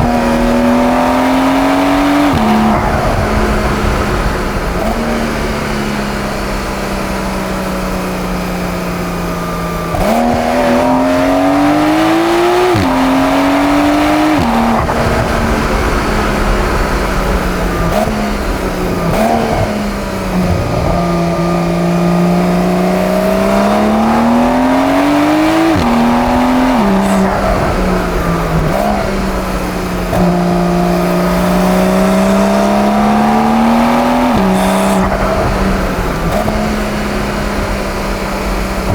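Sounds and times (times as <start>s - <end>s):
car engine revving through gears: 0.0s - 38.9s.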